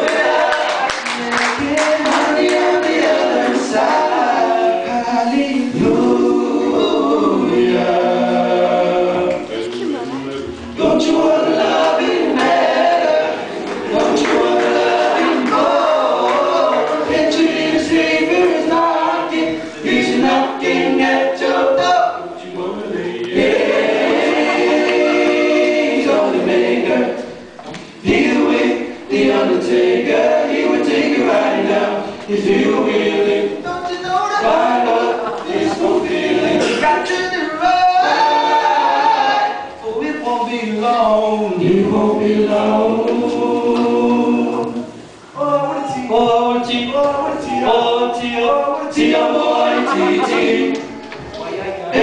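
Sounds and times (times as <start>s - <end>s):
men singing a cappella: 0.0s - 9.5s, 10.4s - 51.0s.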